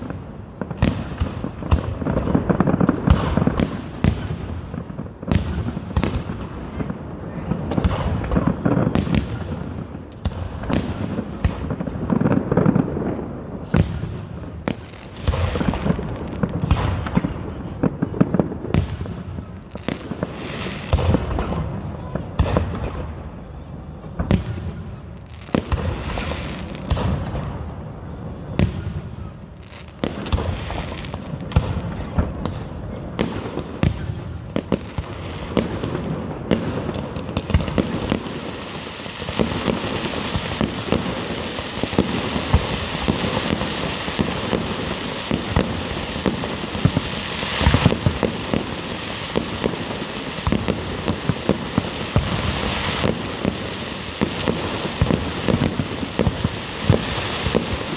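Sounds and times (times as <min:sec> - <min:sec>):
fireworks bangs and crackle: 0:00.0 - 0:57.9.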